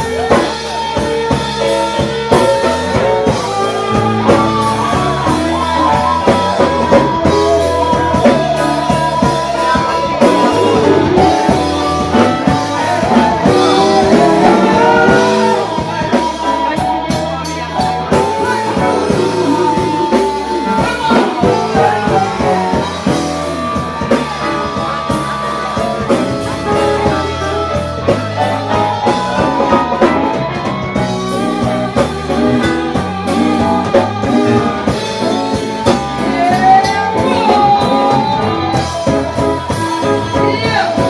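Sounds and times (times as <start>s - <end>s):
drums: 0.0s - 41.0s
electric guitar: 0.0s - 41.0s
person singing: 0.0s - 41.0s.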